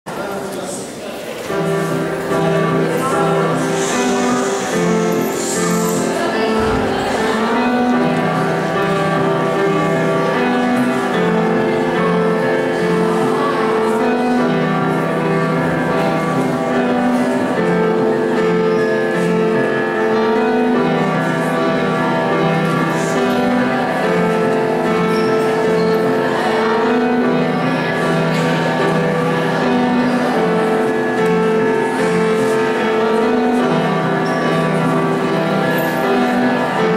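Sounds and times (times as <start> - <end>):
upright piano playing: 1.4 - 36.9.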